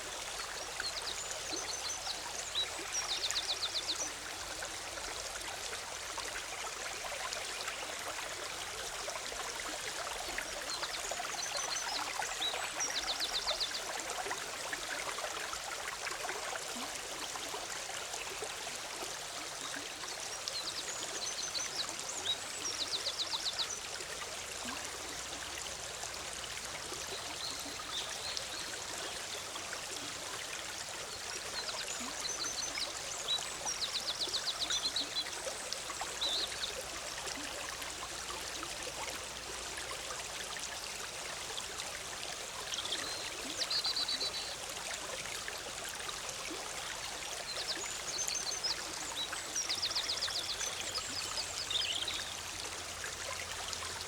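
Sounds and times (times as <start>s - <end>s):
stream bubbling over rocks: 0.0s - 54.0s.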